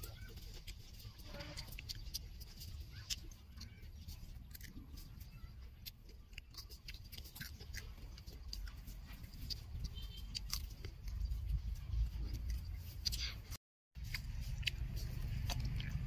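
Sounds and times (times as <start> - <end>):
child chewing raw cucumber: 0.0 - 16.0.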